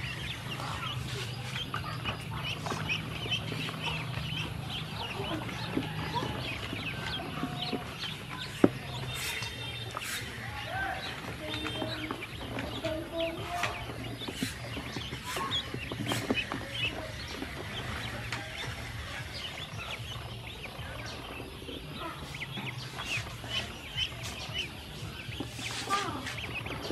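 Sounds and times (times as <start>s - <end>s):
ducklings peeping: 0.0s - 26.9s.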